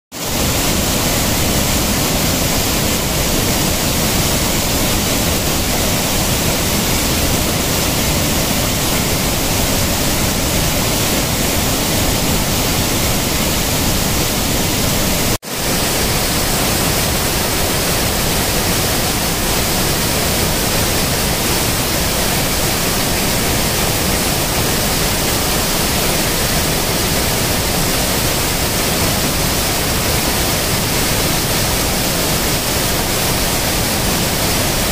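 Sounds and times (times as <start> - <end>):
waterfall roaring: 0.2 - 34.9.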